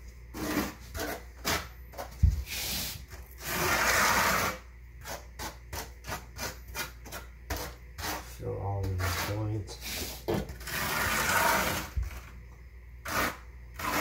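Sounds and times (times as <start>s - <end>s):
trowel scraping mortar: 0.3s - 12.3s, 13.0s - 14.0s.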